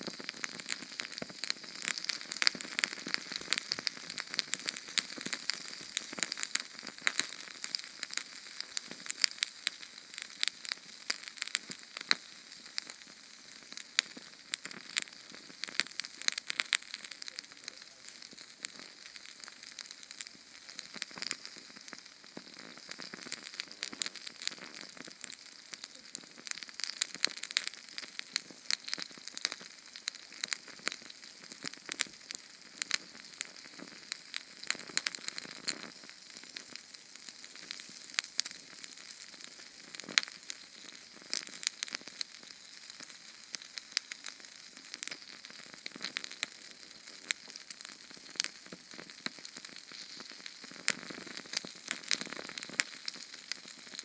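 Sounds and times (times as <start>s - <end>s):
flame crackles and pops: 0.0s - 54.0s.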